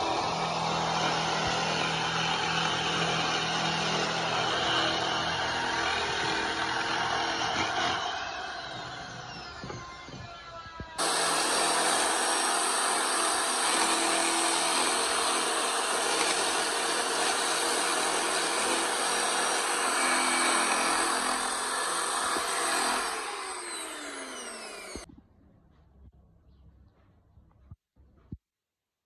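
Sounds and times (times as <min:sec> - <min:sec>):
power tool cutting wood: 0:00.0 - 0:25.1.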